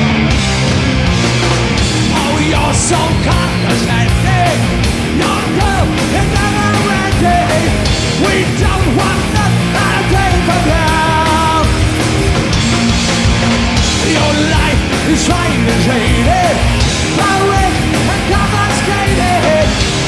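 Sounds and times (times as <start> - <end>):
loud rock music with singing: 0.0 - 20.0
steady drum beat: 0.0 - 20.0.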